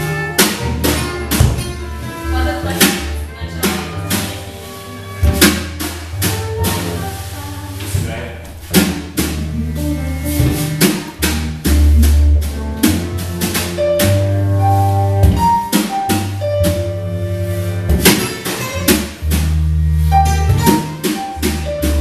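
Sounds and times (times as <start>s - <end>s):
deep bass line: 0.0s - 22.0s
drum kit beat: 0.0s - 22.0s
live jazz band playing: 0.0s - 22.0s.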